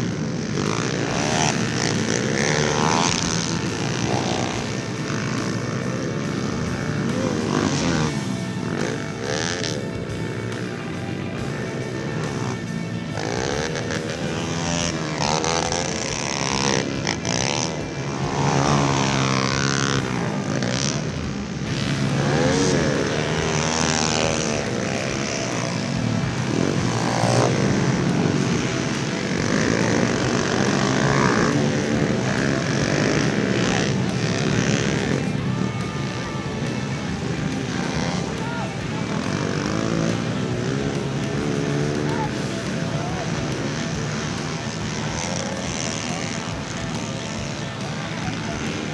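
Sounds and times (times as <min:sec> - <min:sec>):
motorbike engines revving: 0:00.0 - 0:48.9.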